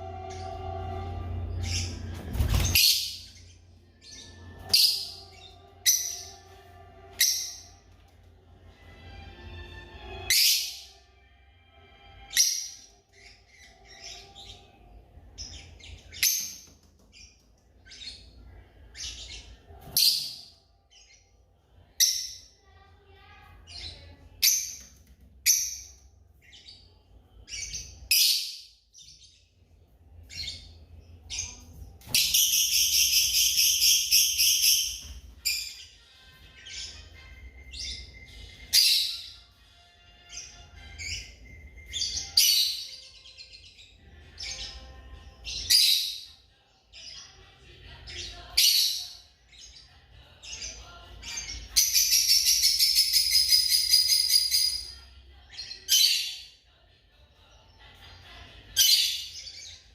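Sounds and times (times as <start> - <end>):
lovebirds chirping: 1.4 - 7.9, 12.1 - 22.6, 23.2 - 56.5.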